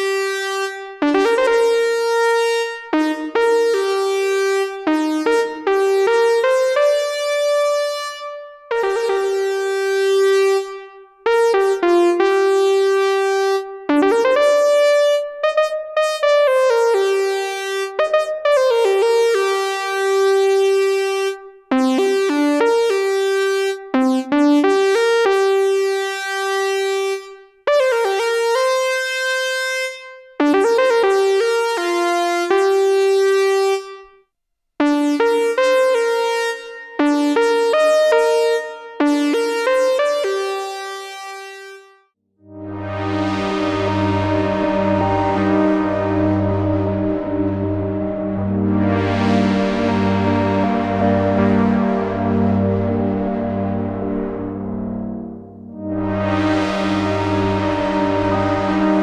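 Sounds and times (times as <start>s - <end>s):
synthesizer notes with reverb: 0.0s - 34.0s, 42.5s - 59.0s.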